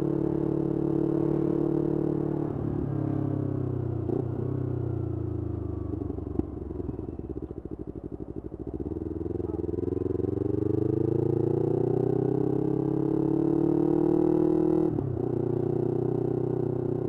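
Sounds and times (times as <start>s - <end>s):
motorcycle engine revving: 0.0s - 7.5s, 8.2s - 17.0s.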